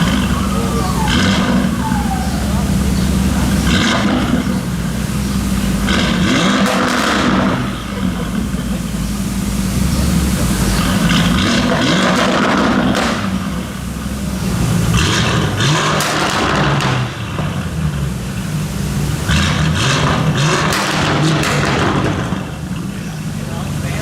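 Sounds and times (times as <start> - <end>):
car engine rumbling and revving: 0.0 - 24.0.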